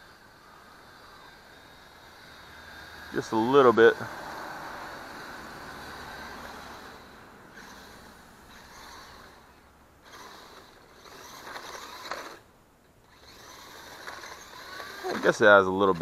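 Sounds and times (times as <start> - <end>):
toy truck electric motor whir: 0.0 - 16.0.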